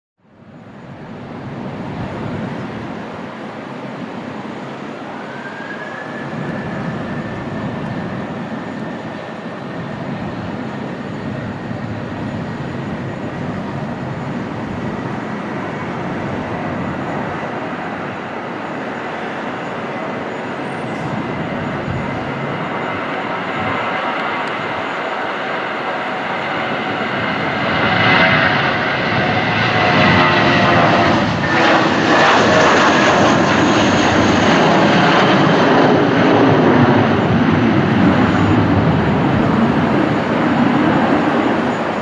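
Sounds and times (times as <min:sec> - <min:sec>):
jet engines at takeoff power: 0:00.2 - 0:42.0.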